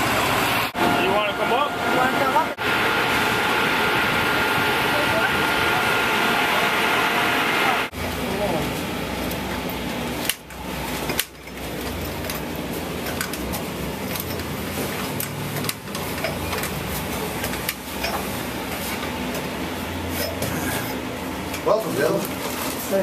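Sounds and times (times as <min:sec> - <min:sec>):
ventilation blower humming: 0:00.0 - 0:23.0.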